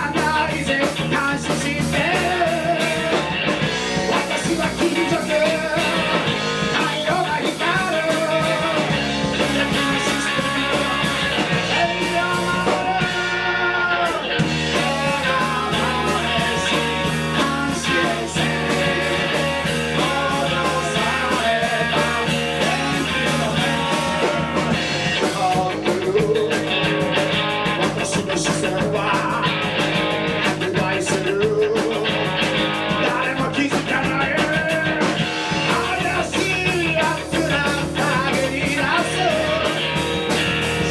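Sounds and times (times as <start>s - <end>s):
person singing: 0.0s - 3.4s, 4.0s - 40.0s
bass line: 0.0s - 40.9s
distorted electric guitars: 0.0s - 40.9s
drums: 0.0s - 40.9s.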